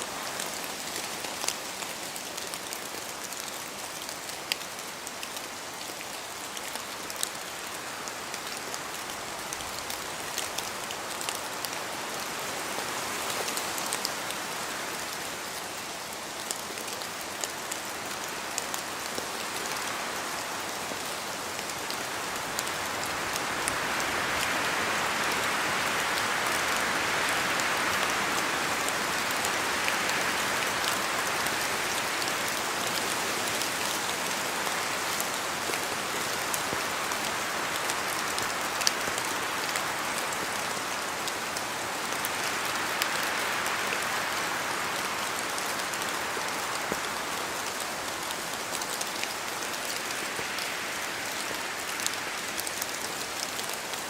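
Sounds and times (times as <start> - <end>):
steady rain: 0.0 - 54.0
wind through trees: 0.0 - 54.0.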